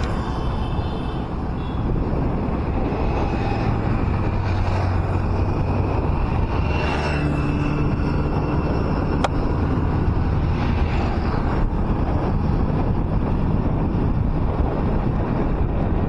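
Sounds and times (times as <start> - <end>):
tyre and wind rumble: 0.0 - 16.0
vehicle engine hum: 0.0 - 16.0.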